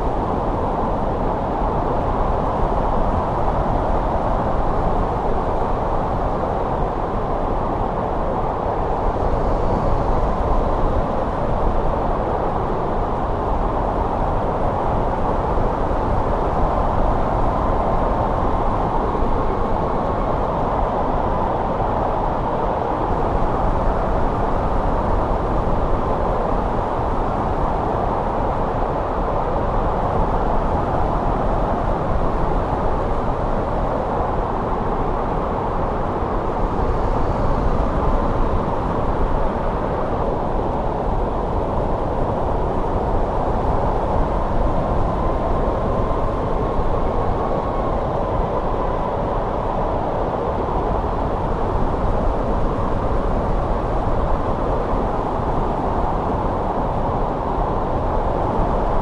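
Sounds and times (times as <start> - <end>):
snowstorm wind rushing: 0.0 - 59.0.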